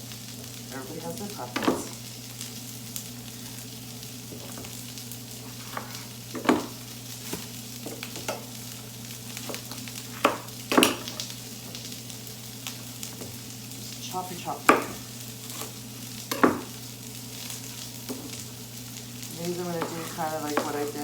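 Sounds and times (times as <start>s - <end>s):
vegetables sizzling in frying pan: 0.0s - 21.0s.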